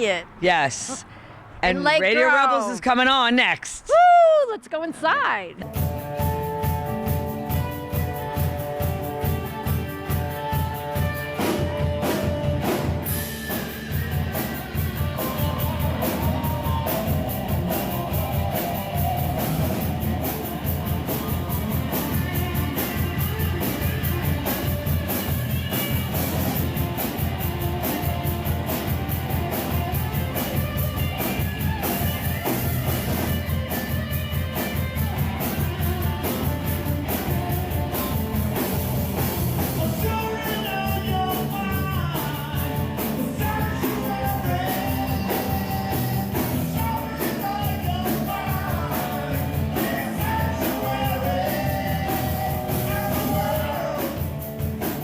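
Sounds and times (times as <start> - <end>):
driving drum beat: 5.0 - 55.0
electric guitar chords: 5.6 - 55.0.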